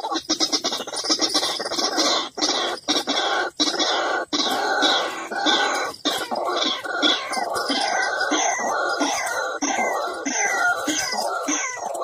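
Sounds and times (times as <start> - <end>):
waterhens calling harshly: 0.0 - 12.0.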